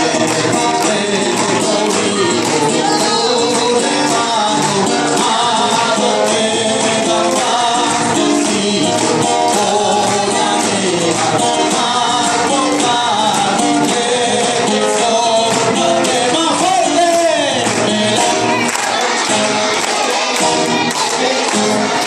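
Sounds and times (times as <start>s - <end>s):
percussion beat: 0.0s - 22.0s
person singing: 0.0s - 22.0s.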